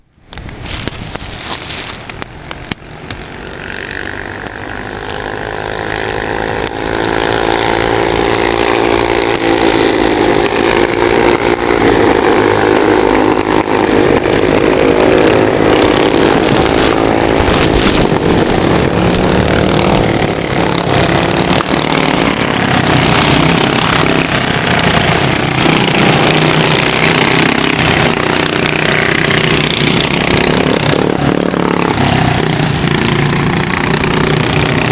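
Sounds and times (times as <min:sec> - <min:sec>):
go-kart engines revving: 0:00.5 - 0:34.9.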